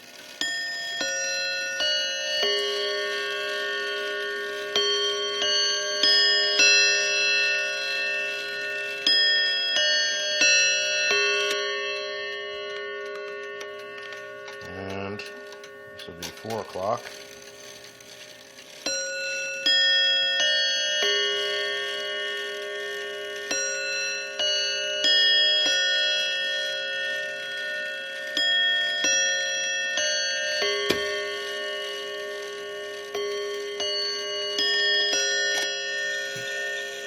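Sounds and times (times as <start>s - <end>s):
chime clock bells playing: 0.0s - 37.0s.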